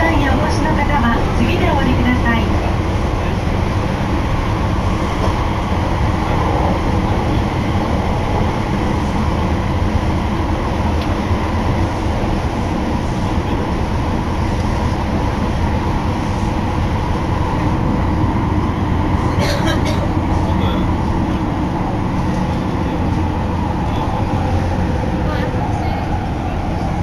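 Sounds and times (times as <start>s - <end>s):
train rumbling in tunnel: 0.0s - 27.0s.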